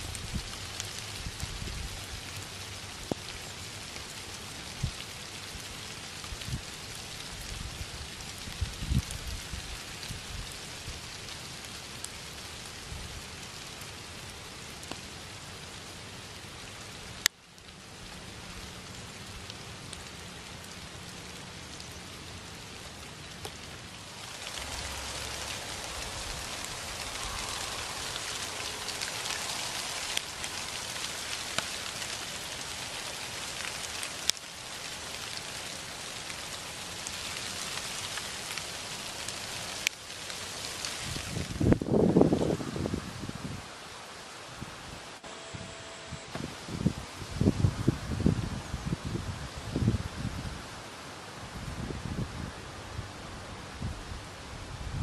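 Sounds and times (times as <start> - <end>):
rain falling on trees: 0.0 - 55.0.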